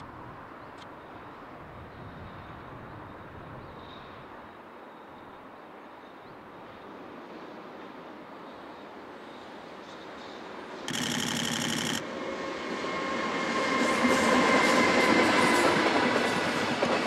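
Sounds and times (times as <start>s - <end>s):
freight train running on rails: 0.2s - 17.0s.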